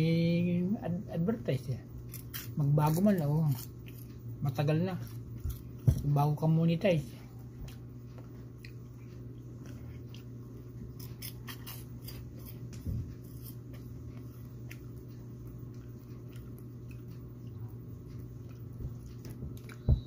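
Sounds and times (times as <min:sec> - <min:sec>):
steady low hum: 0:00.0 - 0:20.0
chewing peanuts crunching: 0:02.0 - 0:06.5, 0:07.7 - 0:20.0.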